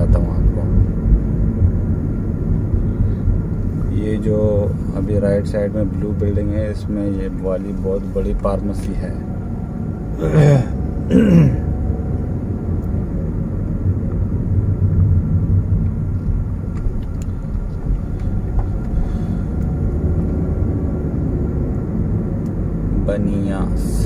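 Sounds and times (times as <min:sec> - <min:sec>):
car driving at road speed: 0:00.0 - 0:24.0.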